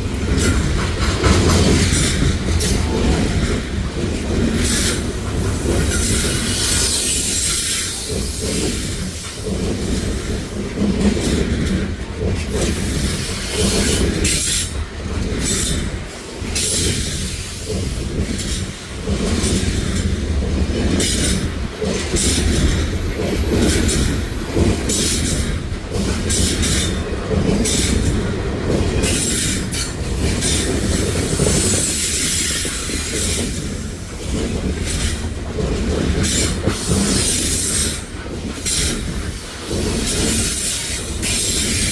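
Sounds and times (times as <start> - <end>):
train cars rumbling past: 0.0 - 41.9
wheels clattering over rail joints: 0.0 - 41.9.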